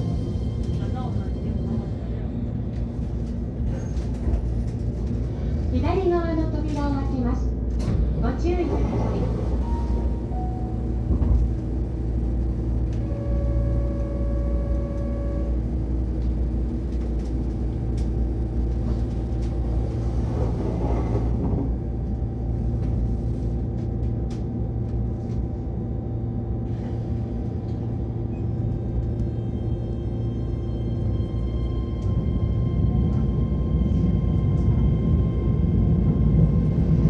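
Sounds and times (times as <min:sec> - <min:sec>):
train equipment humming: 0:00.0 - 0:37.0.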